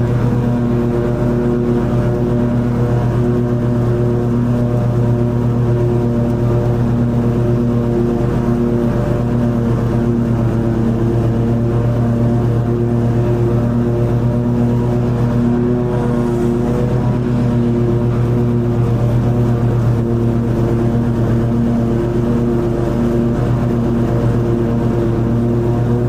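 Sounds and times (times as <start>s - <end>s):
riding mower cutting grass: 0.0s - 26.0s.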